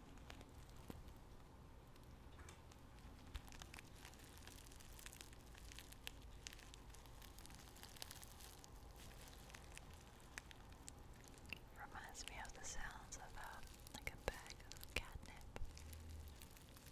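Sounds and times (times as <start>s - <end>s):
tea bags crackling and rustling: 0.0s - 16.9s.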